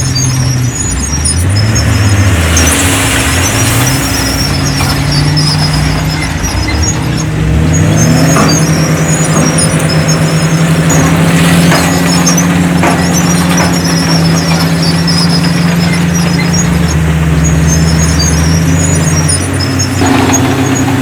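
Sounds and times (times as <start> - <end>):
diesel machinery engine revving: 0.0 - 21.0
high metallic squeaks: 0.0 - 21.0.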